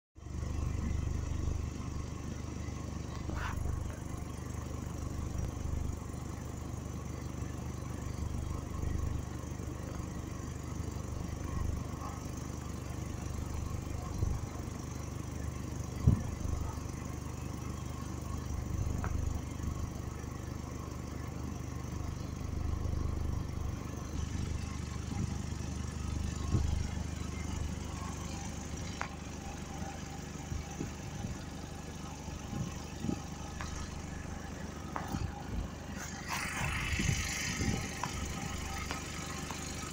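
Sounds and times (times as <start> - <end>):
diesel locomotive engine idling: 0.2 - 39.9.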